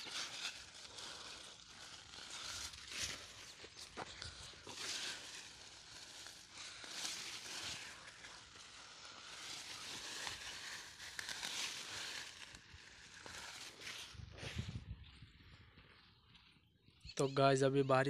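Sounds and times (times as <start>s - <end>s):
leaves and stems rustling: 0.0s - 16.5s.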